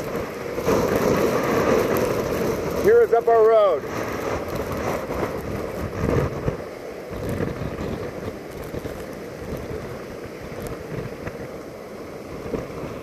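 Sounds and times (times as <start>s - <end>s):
steady rushing noise: 0.0s - 13.0s
wind buffeting microphone: 0.0s - 13.0s.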